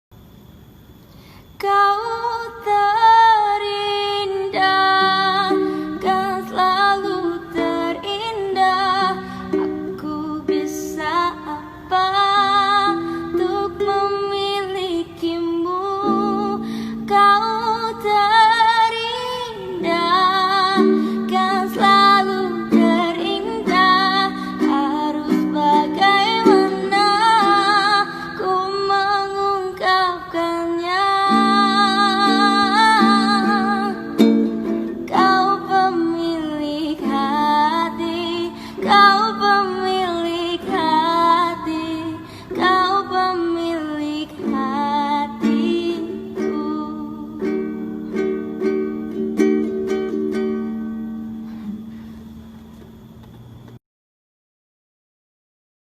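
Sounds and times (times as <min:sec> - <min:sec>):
woman singing with vibrato: 0:01.6 - 0:51.4
plucked string instrument: 0:04.4 - 0:11.7, 0:12.3 - 0:52.9.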